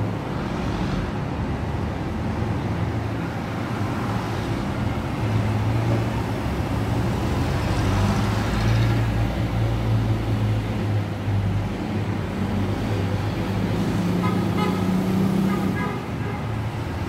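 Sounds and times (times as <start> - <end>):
tyre noise of passing cars: 0.0 - 17.0.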